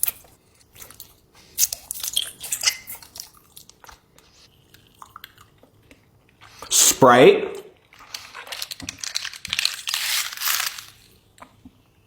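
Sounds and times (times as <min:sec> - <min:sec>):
chewing gummy candy: 0:00.0 - 0:06.7, 0:07.8 - 0:11.7.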